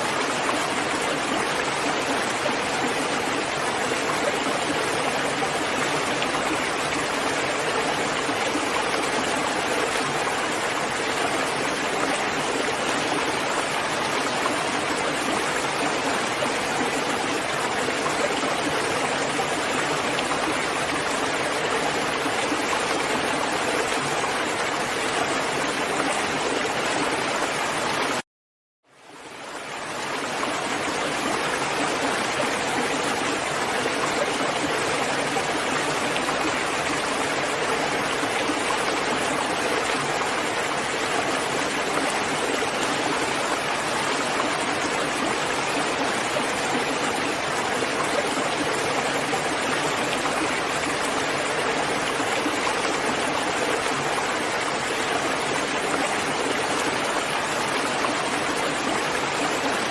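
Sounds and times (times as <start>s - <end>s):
steady rainfall: 0.0s - 28.2s, 28.9s - 59.9s.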